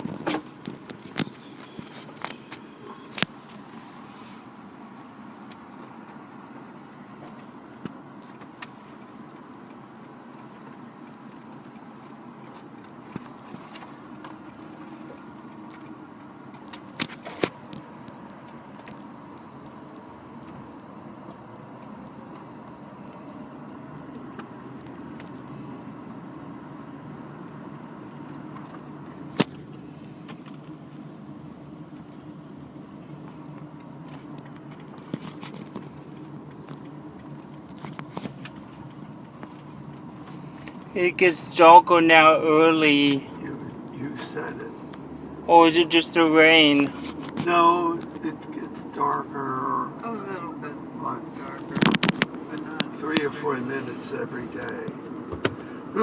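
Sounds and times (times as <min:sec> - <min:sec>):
car cabin noise: 0:00.0 - 0:56.0.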